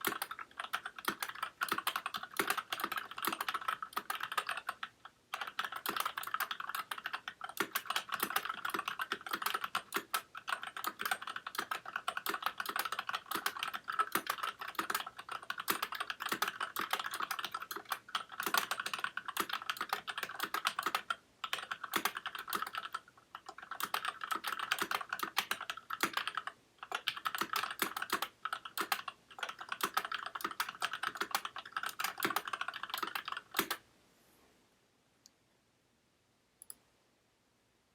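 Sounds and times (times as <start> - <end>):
typing on mechanical keyboard: 0.0 - 33.8.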